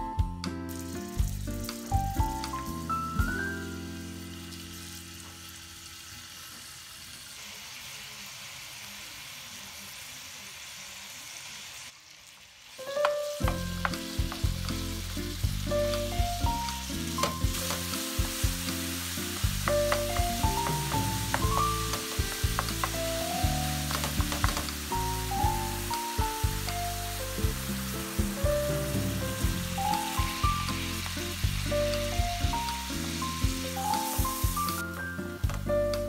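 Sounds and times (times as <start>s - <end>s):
light background music: 0.0s - 5.7s, 12.8s - 36.0s
meat sizzling in frying pan: 0.7s - 36.0s.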